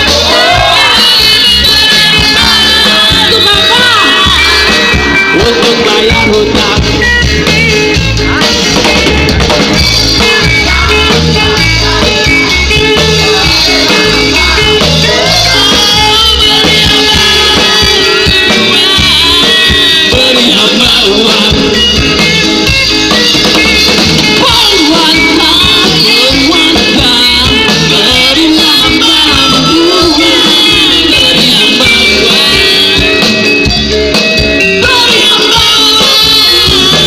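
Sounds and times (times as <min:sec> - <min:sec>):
band music: 0:00.0 - 0:37.0
drum kit beat: 0:00.0 - 0:37.0
guitar: 0:00.0 - 0:37.0.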